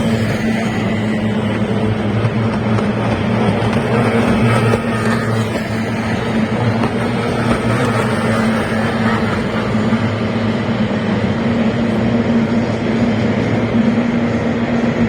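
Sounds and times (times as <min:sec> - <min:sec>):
outboard engines droning: 0:00.0 - 0:15.0.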